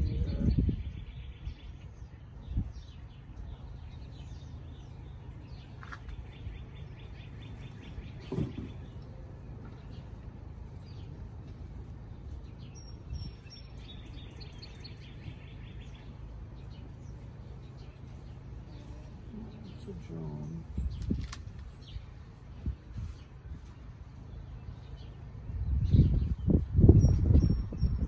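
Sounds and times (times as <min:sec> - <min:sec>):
low outdoor rumble: 0:00.0 - 0:28.0
songbirds chirping: 0:00.0 - 0:28.0.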